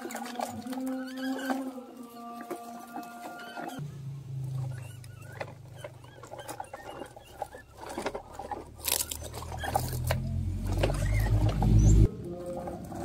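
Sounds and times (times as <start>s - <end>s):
toy trucks rolling over gravel: 0.0s - 13.0s
low steady hum: 0.1s - 13.0s.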